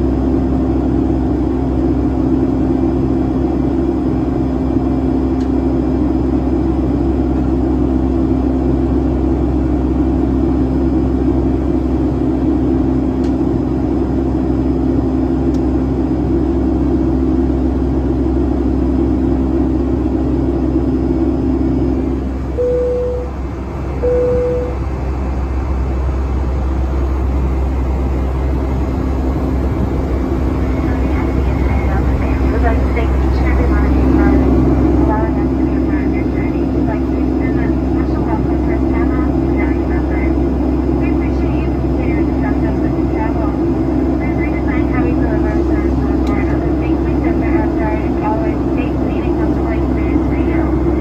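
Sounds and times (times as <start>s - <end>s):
jet engine drone in cabin: 0.0s - 51.0s.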